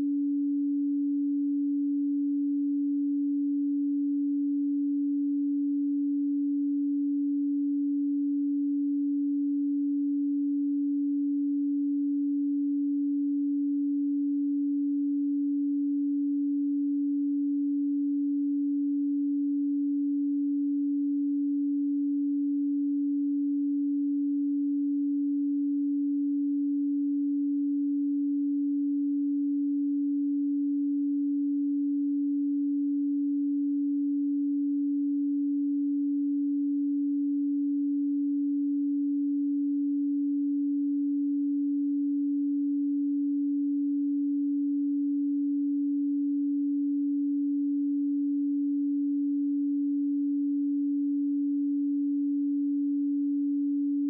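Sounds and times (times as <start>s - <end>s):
steady low sine tone: 0.0s - 54.0s.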